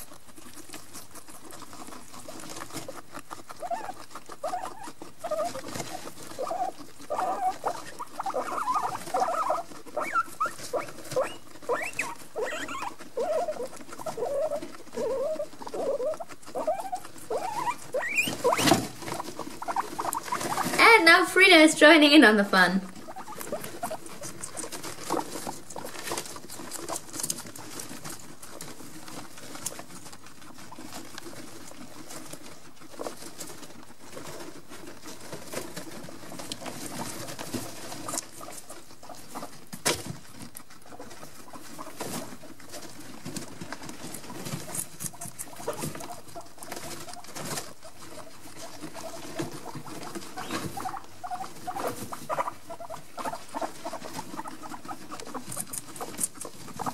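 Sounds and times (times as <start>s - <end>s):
rustling in wood shavings: 0.0s - 22.2s, 22.8s - 56.9s
guinea pigs chewing: 0.0s - 56.9s.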